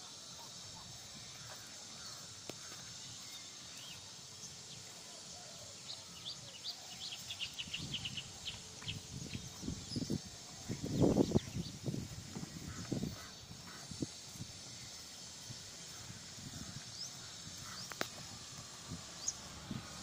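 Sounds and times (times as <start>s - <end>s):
small birds chirping: 0.0s - 20.0s
steady outdoor hiss: 0.0s - 20.0s.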